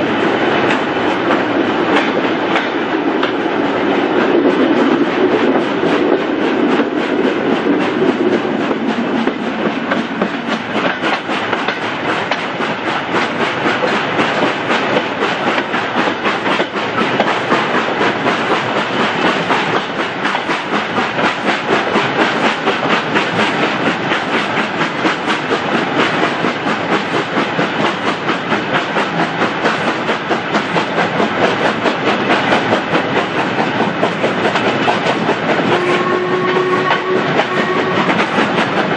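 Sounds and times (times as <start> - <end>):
steam train chuffing: 0.0 - 38.9.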